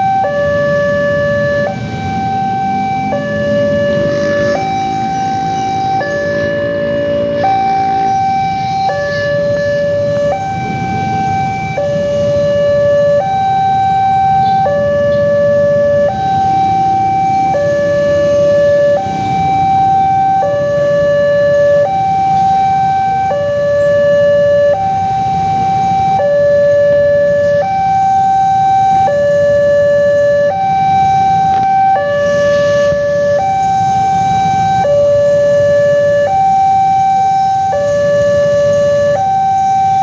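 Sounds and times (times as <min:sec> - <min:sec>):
two-tone level-crossing siren: 0:00.0 - 0:40.0.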